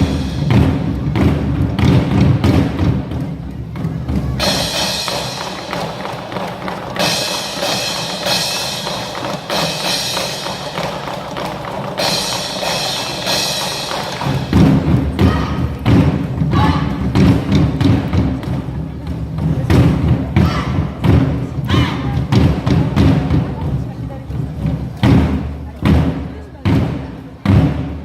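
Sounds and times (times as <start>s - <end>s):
heavy drum strokes: 0.0s - 28.0s
percussion troupe drumming: 0.0s - 28.0s.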